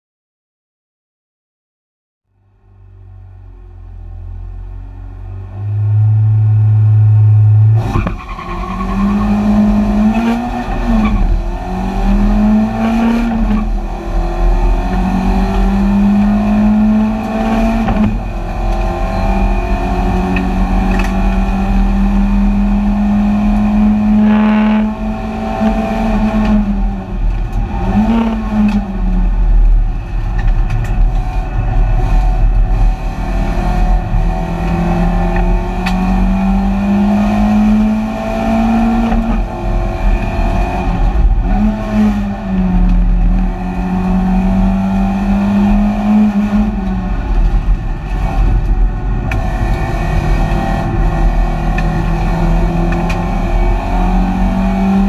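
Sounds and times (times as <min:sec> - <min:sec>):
race car engine revving: 0:05.2 - 0:55.0.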